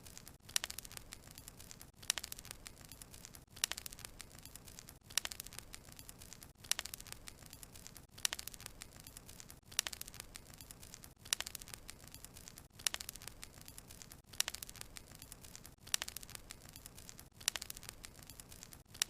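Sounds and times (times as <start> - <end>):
burning logs crackling: 0.0 - 19.0.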